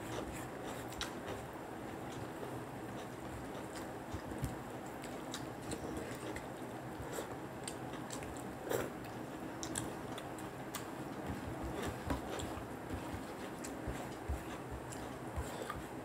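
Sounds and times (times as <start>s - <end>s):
chewing and mouth sounds: 0.1s - 15.9s.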